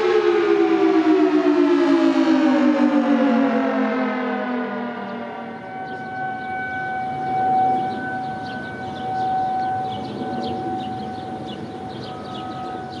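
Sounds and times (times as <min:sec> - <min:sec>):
outdoor warning siren: 0:00.0 - 0:13.0.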